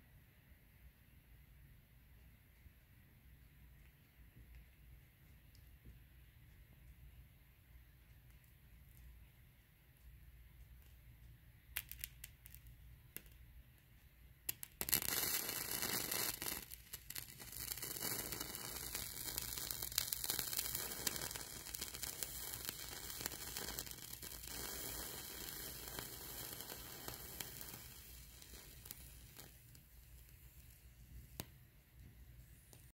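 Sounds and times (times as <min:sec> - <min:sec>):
candle wick crackling and sizzling: 0:01.0 - 0:32.9.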